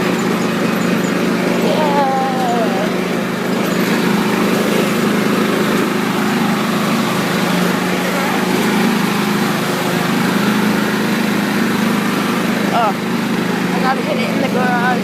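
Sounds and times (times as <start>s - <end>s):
riding lawn mower engine running: 0.0s - 15.0s.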